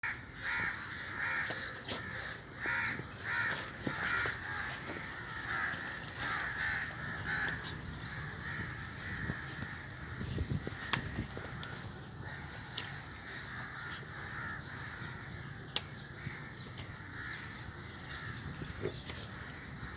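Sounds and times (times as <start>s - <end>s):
crows cawing: 0.0s - 19.9s.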